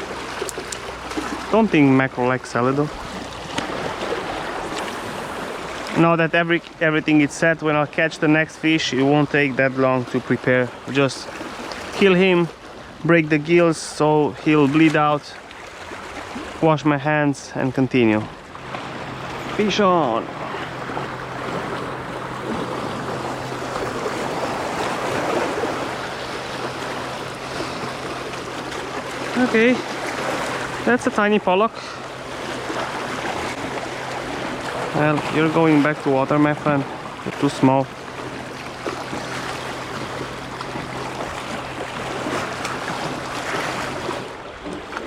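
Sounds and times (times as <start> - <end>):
sea waves washing on shore: 0.0 - 45.0.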